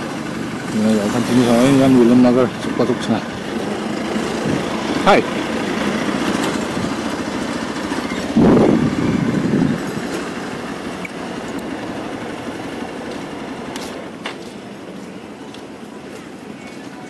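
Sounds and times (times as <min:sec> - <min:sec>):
motorcycle running: 0:00.0 - 0:17.0
wind and road noise: 0:00.0 - 0:17.0.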